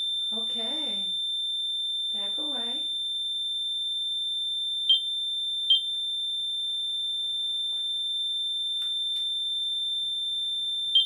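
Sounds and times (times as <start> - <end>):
sensor alarm high-pitched tone: 0.0 - 11.0.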